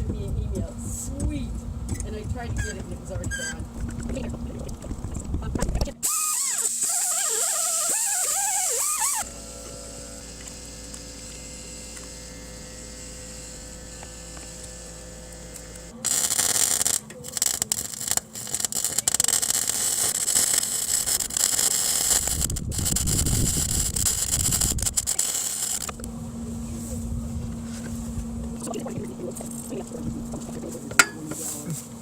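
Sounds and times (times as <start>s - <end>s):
steady low hum: 0.0s - 6.9s, 8.1s - 32.0s
welder arc crackling: 0.0s - 32.0s.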